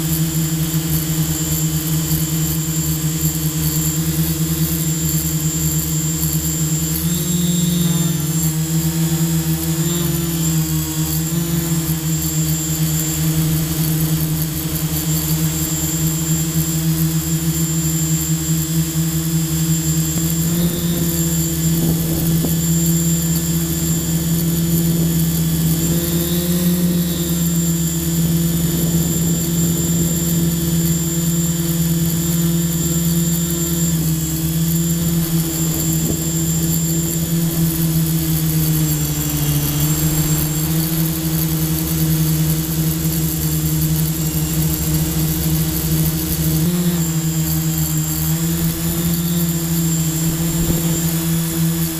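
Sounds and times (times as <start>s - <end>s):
drone propellers humming: 0.0s - 51.9s.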